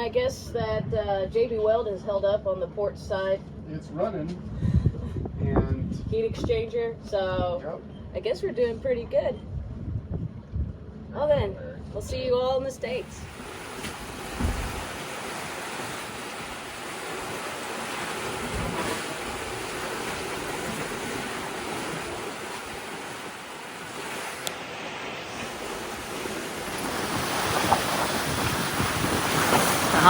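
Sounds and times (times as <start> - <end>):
wind and sea water rushing: 4.4 - 30.0.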